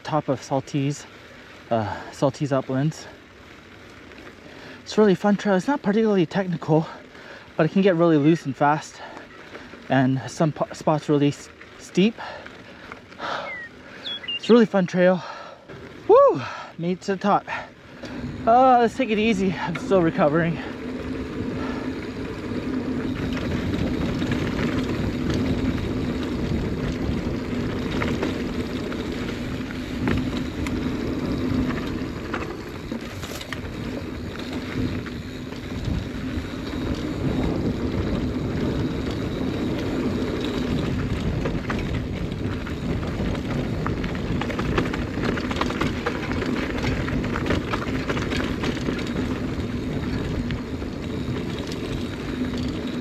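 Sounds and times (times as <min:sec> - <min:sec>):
bike rattling over rough ground: 0:00.0 - 0:53.0.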